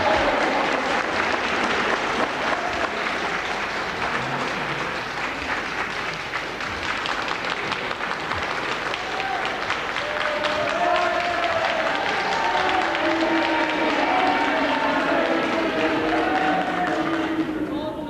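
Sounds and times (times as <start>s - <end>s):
crowd applauding: 0.0s - 17.9s.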